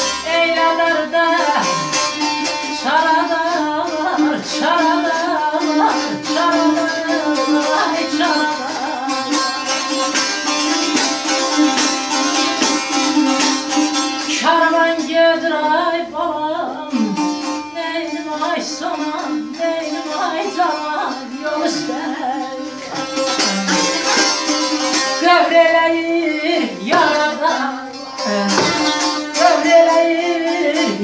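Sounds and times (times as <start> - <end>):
lutes playing plucked melody: 0.0 - 31.0.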